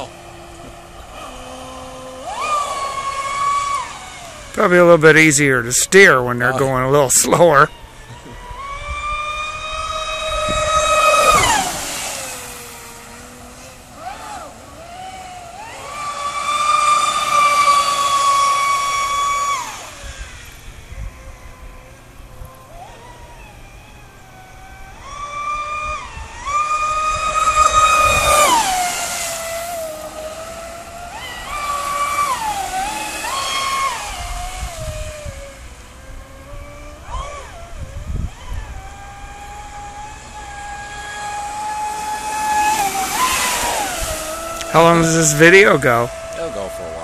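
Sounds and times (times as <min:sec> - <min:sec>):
electric motor whining: 0:00.0 - 0:47.0.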